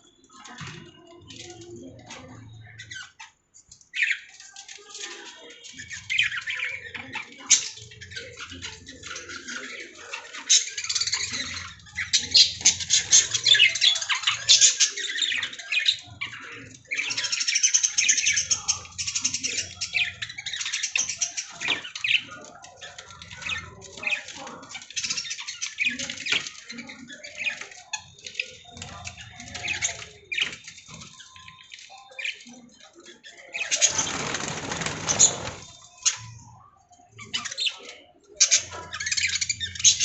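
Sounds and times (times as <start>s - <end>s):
lovebirds chattering: 0.0s - 40.0s.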